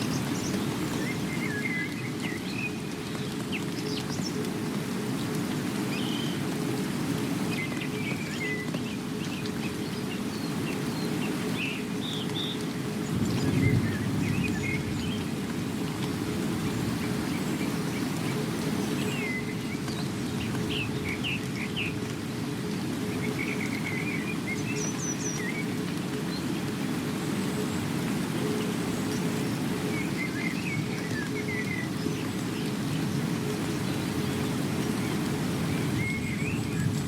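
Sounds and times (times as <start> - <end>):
small birds chirping: 0.0 - 6.5, 7.3 - 15.4, 16.3 - 37.0
steady rain: 0.0 - 37.0.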